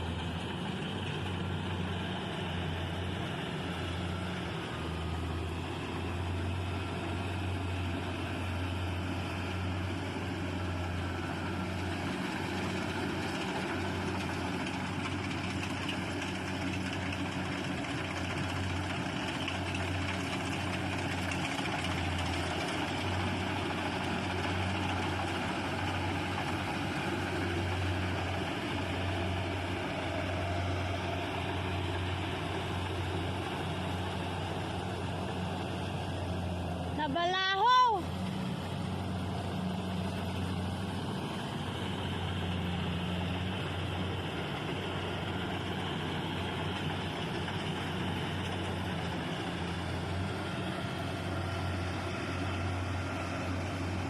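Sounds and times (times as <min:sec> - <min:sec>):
harvester engine hum: 0:00.0 - 0:54.0.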